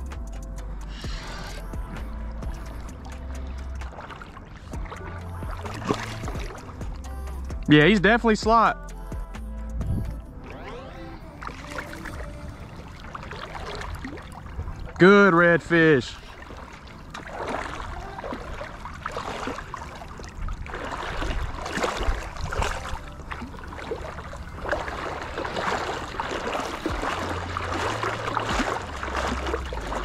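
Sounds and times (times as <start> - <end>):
fish splashing in shallow water: 0.0 - 7.6, 10.4 - 30.0.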